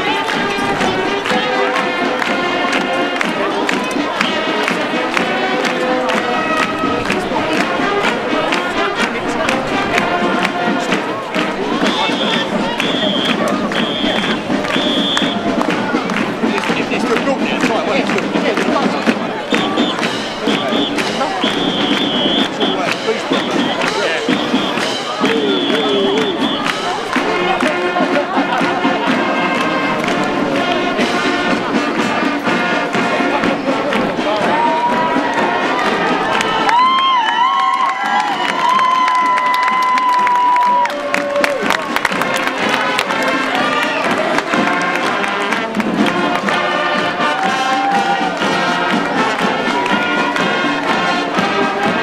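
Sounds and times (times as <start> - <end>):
brass instruments playing: 0.0 - 39.3, 40.3 - 52.0
steady drum beat: 0.0 - 52.0.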